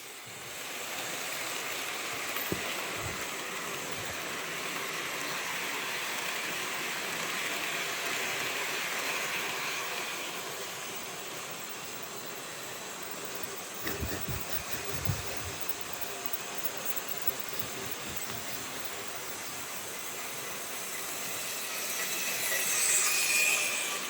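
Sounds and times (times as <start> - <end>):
model train rolling on track: 0.0 - 24.0.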